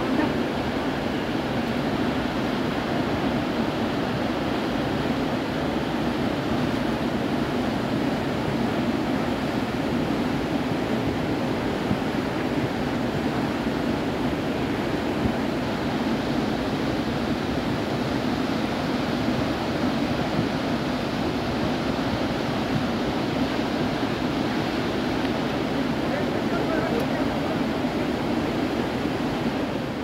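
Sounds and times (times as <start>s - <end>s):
flooded river rushing over boulders: 0.0s - 30.0s.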